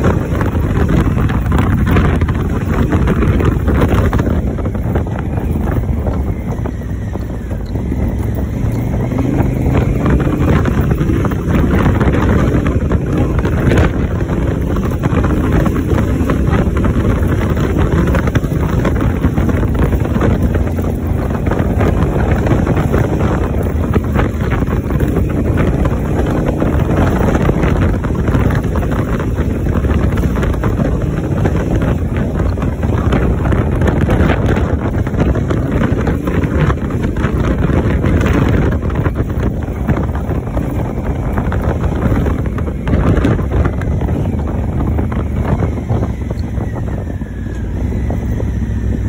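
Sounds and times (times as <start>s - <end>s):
motorcycle engine running: 0.0s - 49.0s
wind noise on microphone: 0.0s - 49.0s.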